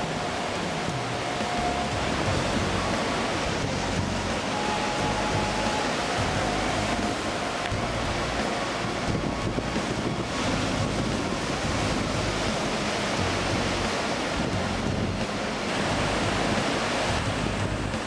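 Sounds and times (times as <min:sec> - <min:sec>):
surf: 0:00.0 - 0:18.0
wind: 0:00.0 - 0:18.0
wind buffeting microphone: 0:00.0 - 0:18.0.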